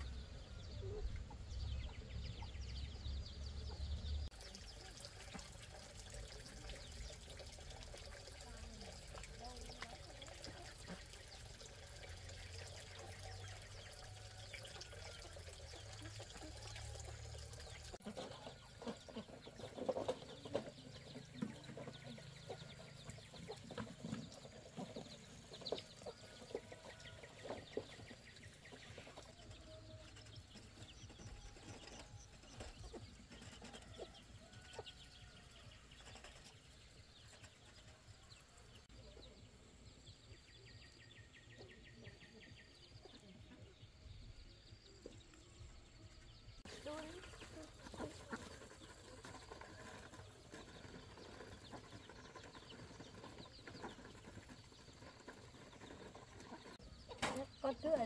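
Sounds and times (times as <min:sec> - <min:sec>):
chickens clucking: 0:00.0 - 0:39.8, 0:46.6 - 0:58.0.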